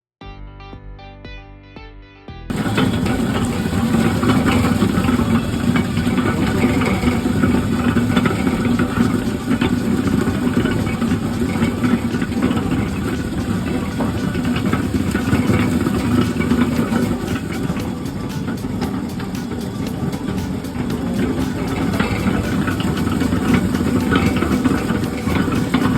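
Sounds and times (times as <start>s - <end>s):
peeling machine humming and rattling: 2.5s - 25.9s.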